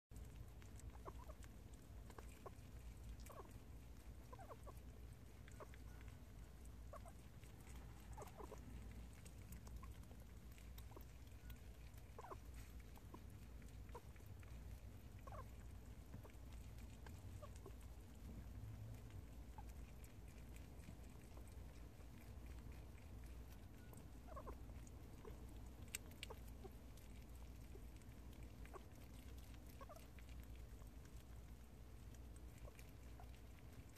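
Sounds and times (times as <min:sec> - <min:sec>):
low steady hum: 0:00.1 - 0:33.9
small animal chewing: 0:00.1 - 0:33.9.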